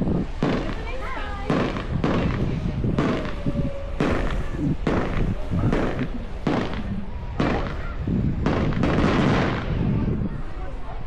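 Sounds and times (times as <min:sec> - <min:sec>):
fireworks bangs with echo: 0:00.2 - 0:10.1.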